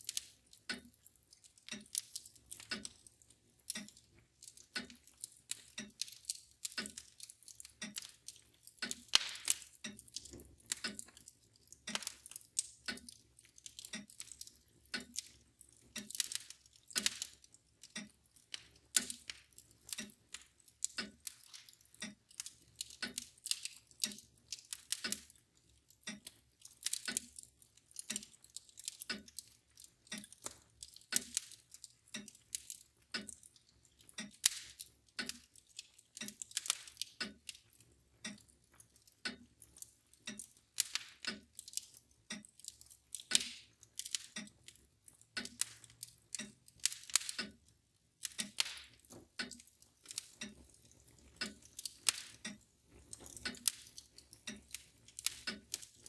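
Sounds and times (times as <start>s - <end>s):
clock ticking: 0.0s - 56.0s
wood fire crackling: 0.0s - 56.0s.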